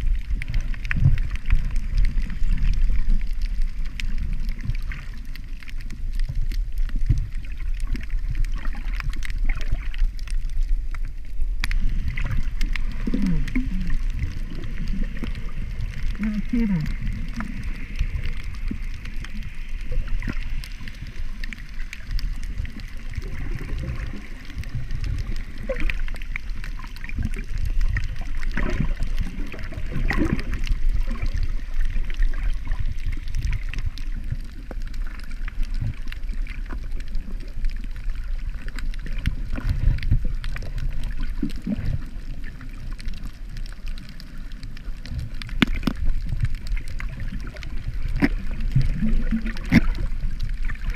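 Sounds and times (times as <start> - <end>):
faint clicks: 0.0 - 50.9
muffled underwater rumble: 0.0 - 50.9.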